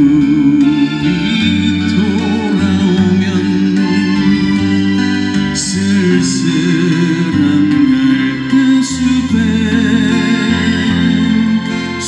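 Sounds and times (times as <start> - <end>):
acoustic guitar: 0.0 - 12.0
backing track with bass and keyboard: 0.0 - 12.0.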